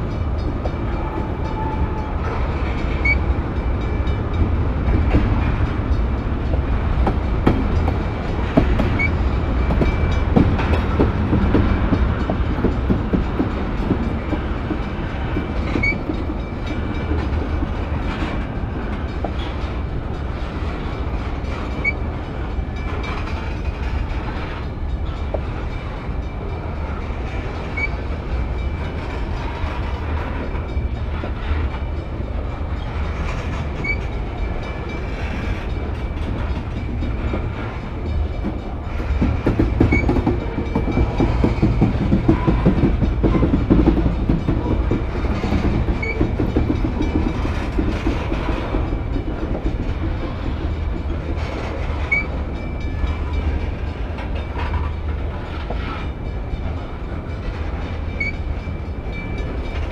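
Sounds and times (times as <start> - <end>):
train wheels rumbling on rails: 0.0 - 59.9
clattering over rail joints: 4.0 - 59.9.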